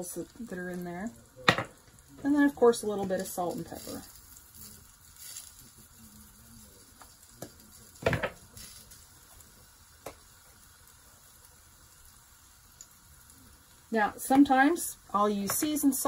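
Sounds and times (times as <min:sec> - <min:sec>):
potatoes sizzling in a pan: 0:00.0 - 0:16.0.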